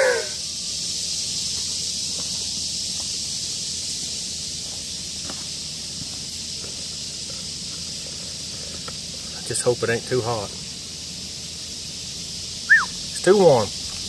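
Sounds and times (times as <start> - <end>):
high-pitched background hiss: 0.0 - 14.0.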